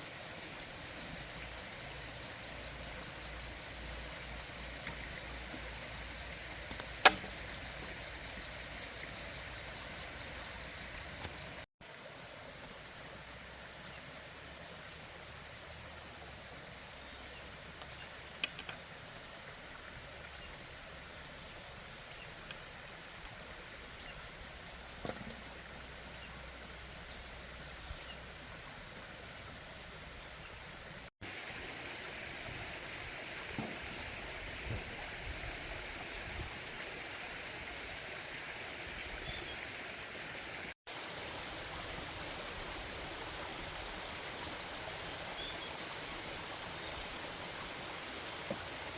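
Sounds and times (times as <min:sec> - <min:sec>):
insects buzzing: 0:00.0 - 0:48.9
insects chirping: 0:00.0 - 0:48.9.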